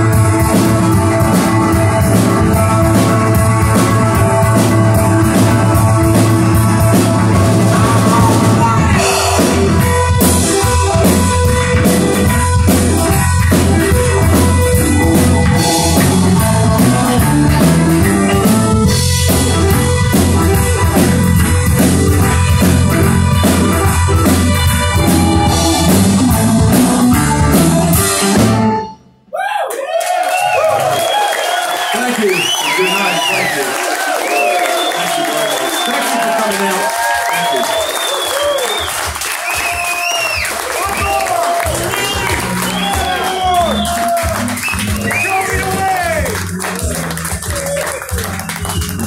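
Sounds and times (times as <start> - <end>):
live rock band playing: 0.0 - 29.2, 30.4 - 49.0.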